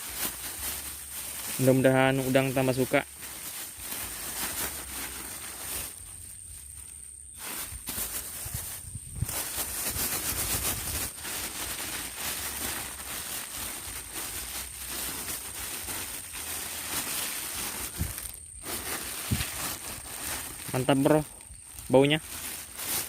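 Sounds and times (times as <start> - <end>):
bait rustling and crackling by hand: 0.0 - 23.0.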